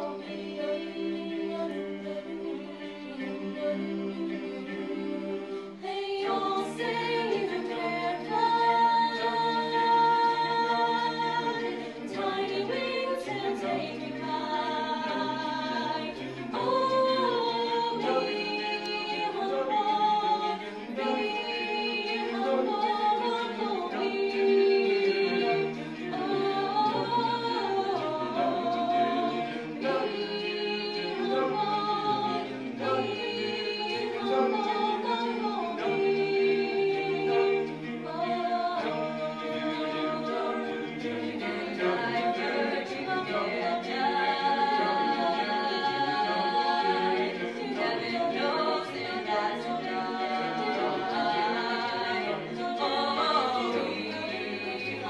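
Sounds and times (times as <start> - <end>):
a cappella group singing harmony: 0.0 - 55.0.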